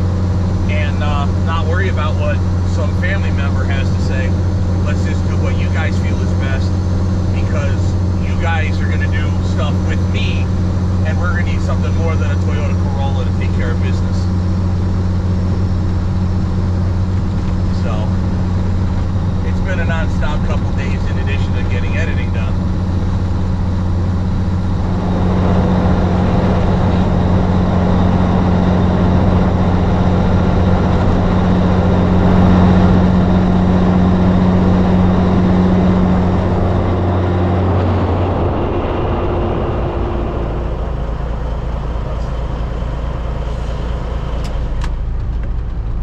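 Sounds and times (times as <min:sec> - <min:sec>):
diesel engine drone: 0:00.0 - 0:46.0
road noise: 0:00.0 - 0:46.0.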